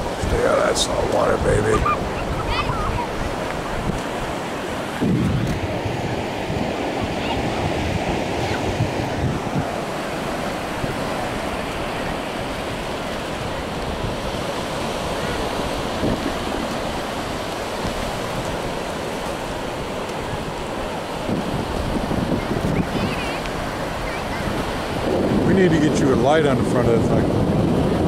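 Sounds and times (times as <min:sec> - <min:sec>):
surf breaking on beach: 0:00.0 - 0:28.0
wind buffeting microphone: 0:00.0 - 0:28.0.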